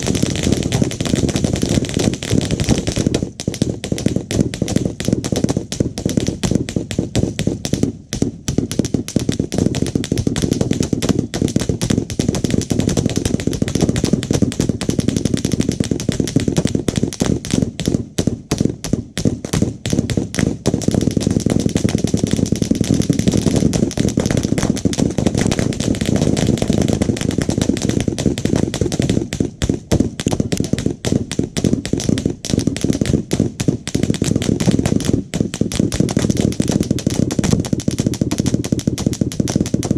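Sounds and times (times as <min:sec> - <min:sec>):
rapid dense gunfire: 0:00.0 - 0:39.9.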